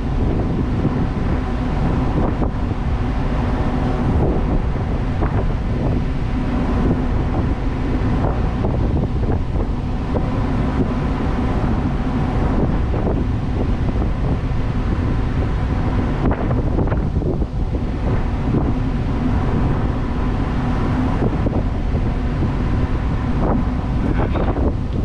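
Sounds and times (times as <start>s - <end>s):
ship engine humming: 0.0s - 25.0s
wind buffeting microphone: 0.0s - 25.0s.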